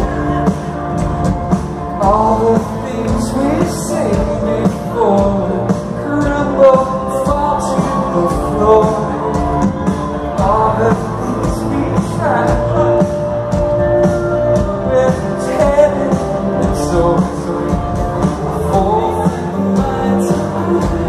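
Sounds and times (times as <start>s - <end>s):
live rock band: 0.0s - 21.0s
person singing: 0.0s - 21.0s.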